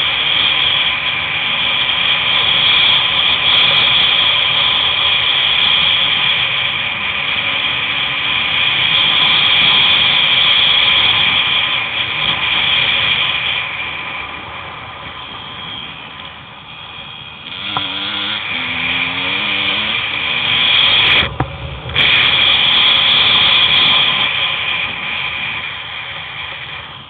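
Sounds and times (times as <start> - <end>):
riding noise buzz with rattle: 0.0 - 27.0.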